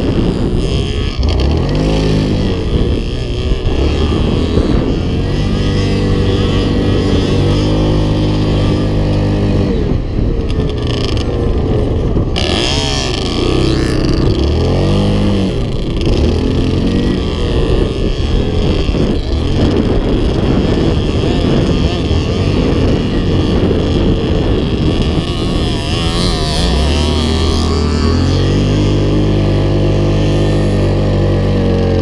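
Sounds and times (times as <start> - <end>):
quad bike engine revving: 0.0 - 32.0.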